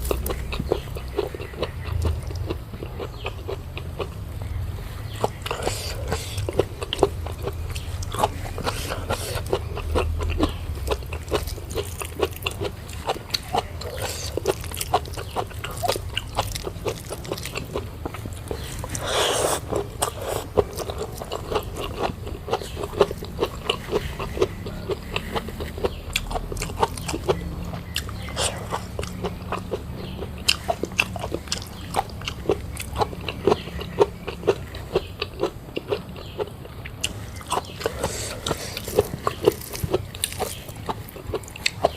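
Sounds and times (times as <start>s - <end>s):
person chewing and lip smacking: 0.0s - 41.9s.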